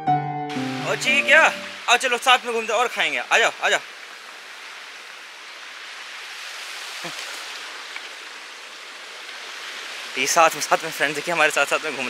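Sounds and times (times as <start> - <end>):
flowing water rushing: 0.7 - 12.0.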